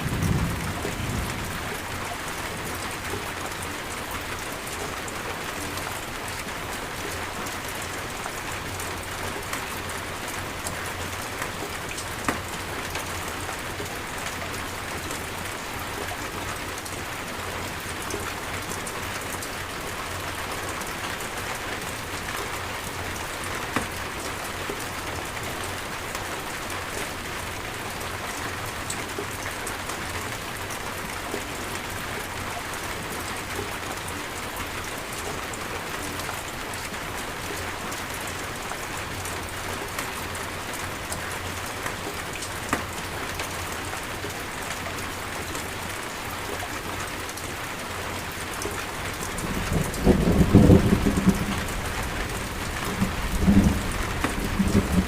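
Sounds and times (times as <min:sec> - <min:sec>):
raindrops ticking on a surface: 0:00.0 - 0:55.0
steady rain hiss: 0:00.0 - 0:55.0.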